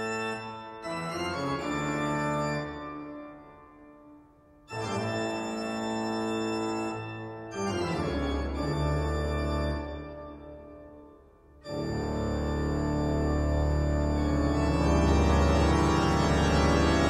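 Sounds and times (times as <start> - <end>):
sustained organ chords: 0.0 - 17.0.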